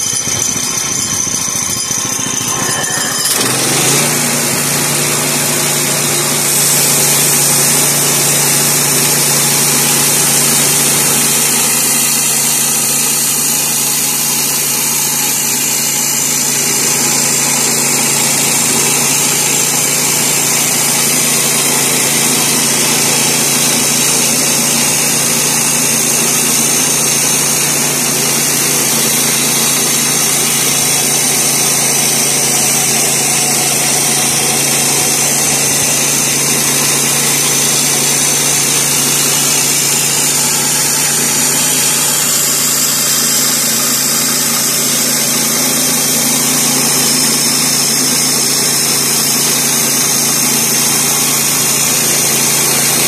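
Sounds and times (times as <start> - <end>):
bandsaw mill engine running: 0.0 - 53.0
band blade sawing log: 2.7 - 53.0.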